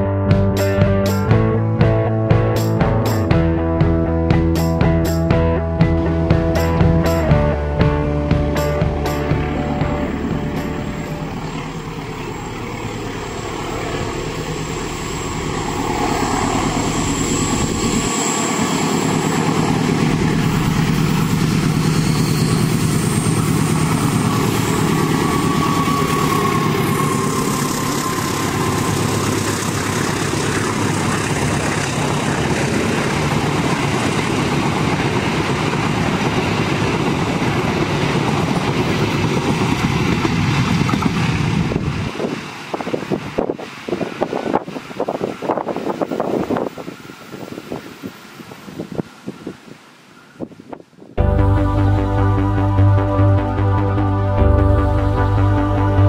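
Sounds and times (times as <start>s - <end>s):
train coaches rumbling on rails: 0.0s - 51.2s
diesel locomotive engine: 0.0s - 56.0s.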